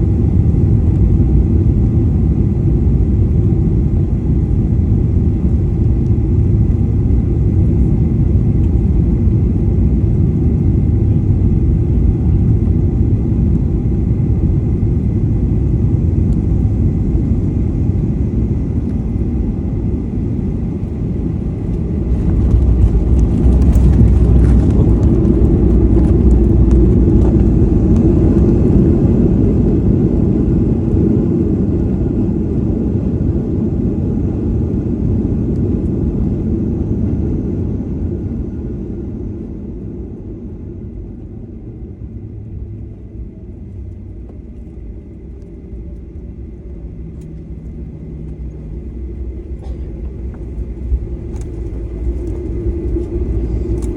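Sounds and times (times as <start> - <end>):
jet engine and airflow rumble: 0.0 - 53.9
steady hum: 0.0 - 53.9.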